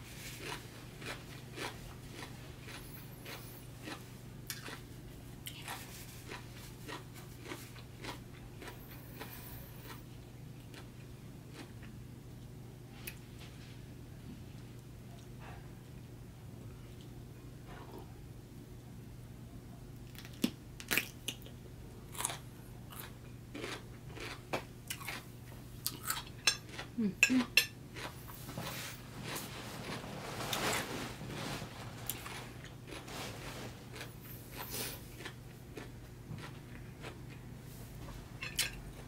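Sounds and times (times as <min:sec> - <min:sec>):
crunchy chewing of cucumber: 0:00.0 - 0:13.2, 0:20.1 - 0:39.0.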